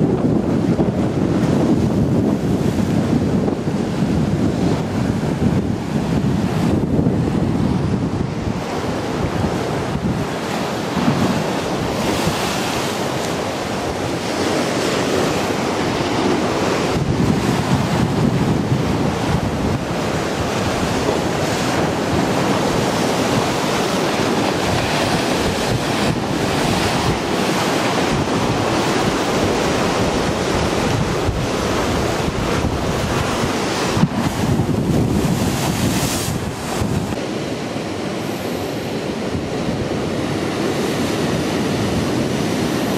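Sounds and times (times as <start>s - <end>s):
surf breaking against a seawall: 0.0s - 42.9s
wind buffeting microphone: 0.0s - 42.9s.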